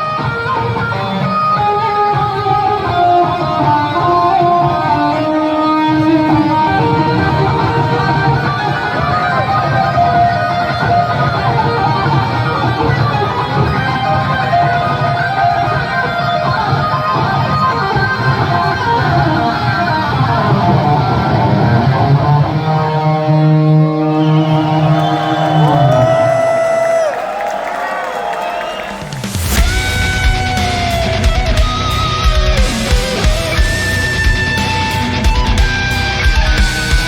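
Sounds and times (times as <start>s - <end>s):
live instrumental rock band: 0.0s - 26.2s, 28.8s - 37.0s
lead electric guitar with bends: 0.0s - 27.1s, 29.0s - 37.0s.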